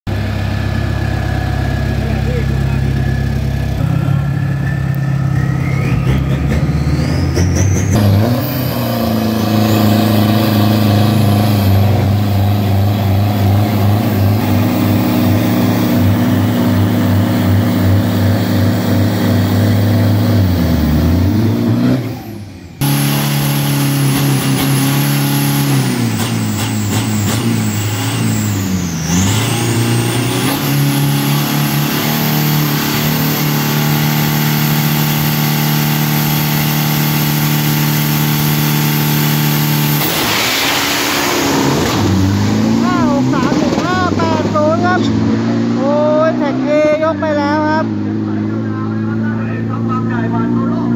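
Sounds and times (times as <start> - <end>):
truck engines revving hard: 0.1 - 50.9.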